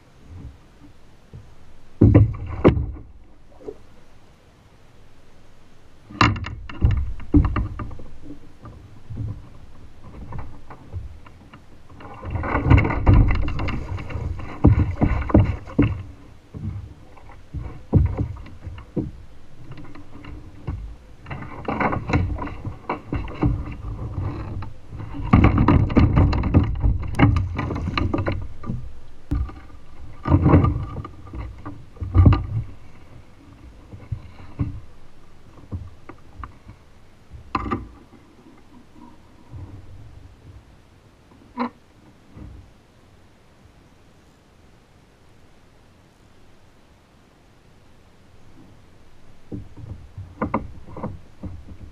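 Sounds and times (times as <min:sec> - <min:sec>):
water lapping against hull: 0:00.0 - 0:44.3, 0:47.7 - 0:51.9.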